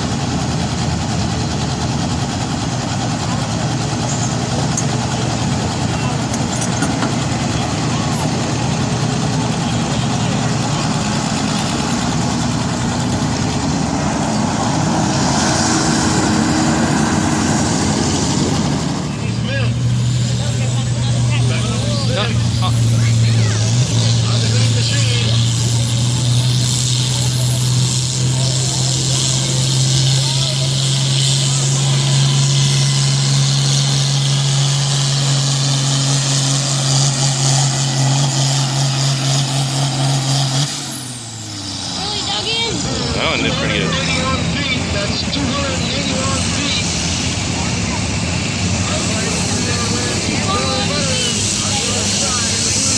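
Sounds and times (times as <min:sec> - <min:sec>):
tractor engine under load: 0:00.0 - 0:52.9.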